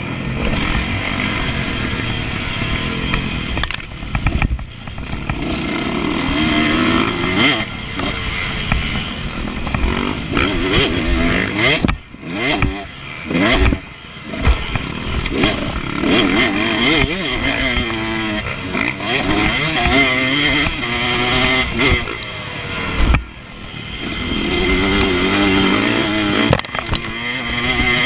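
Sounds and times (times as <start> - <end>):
motocross engine revving: 0.0 - 28.0.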